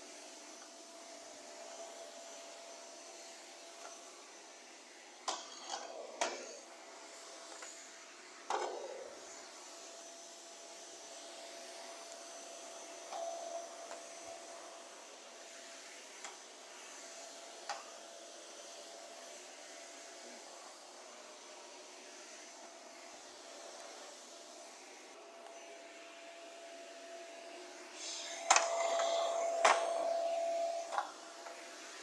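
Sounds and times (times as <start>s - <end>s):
vacuum cleaner whirring: 0.0s - 32.0s.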